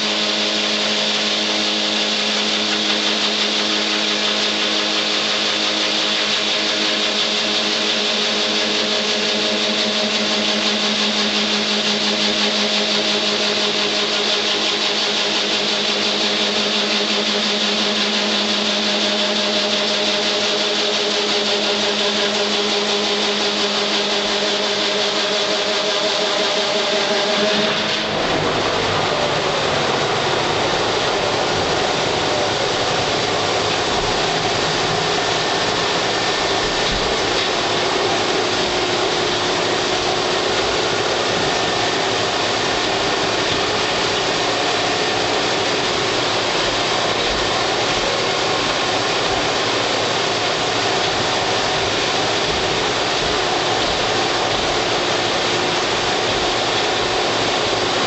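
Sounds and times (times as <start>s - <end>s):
wood lathe cutting wood: 0.0s - 58.0s.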